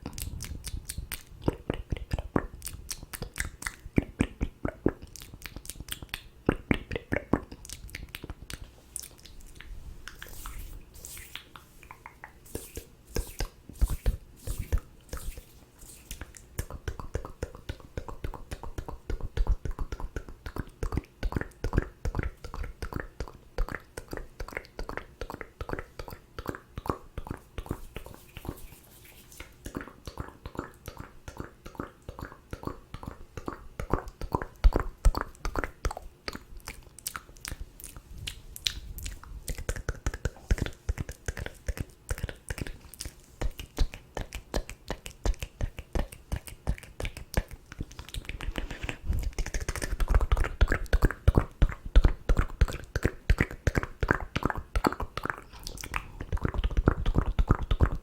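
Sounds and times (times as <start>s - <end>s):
wet tongue and lip clicks: 0.0s - 58.0s.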